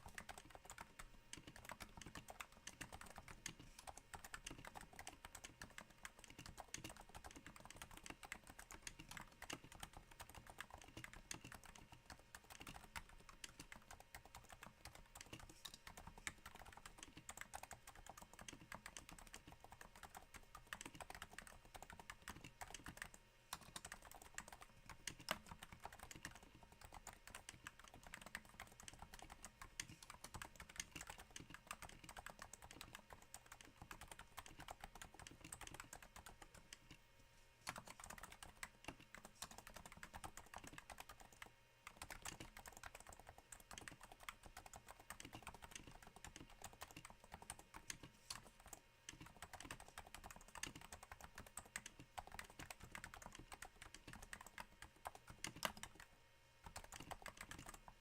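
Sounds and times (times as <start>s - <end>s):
quiet keyboard typing: 0.0s - 58.0s.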